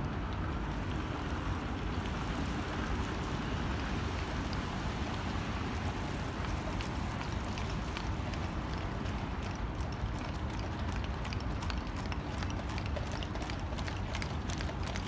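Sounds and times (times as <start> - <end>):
road traffic noise: 0.0 - 15.0
wind rumble on microphone: 0.0 - 15.0.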